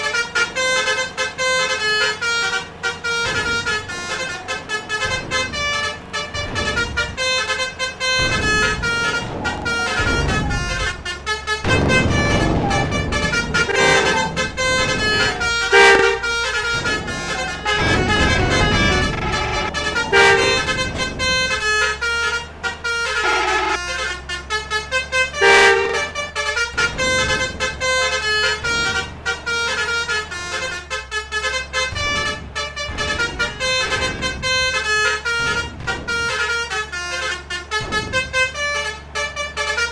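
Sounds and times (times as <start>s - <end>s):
deep horn blasts: 0.0s - 39.9s
multi-tone musical air horns: 0.0s - 39.9s
vehicle engines running: 0.0s - 39.9s.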